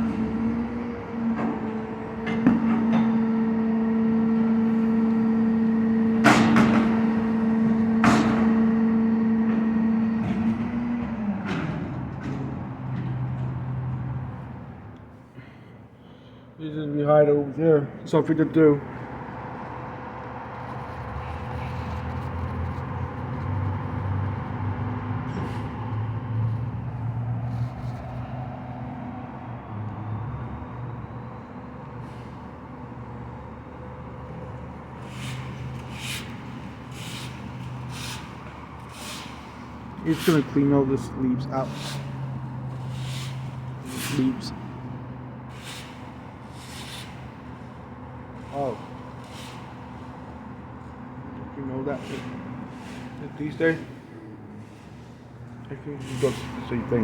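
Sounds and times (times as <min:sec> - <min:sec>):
garbage truck humming: 0:00.0 - 0:16.5, 0:17.3 - 0:57.0.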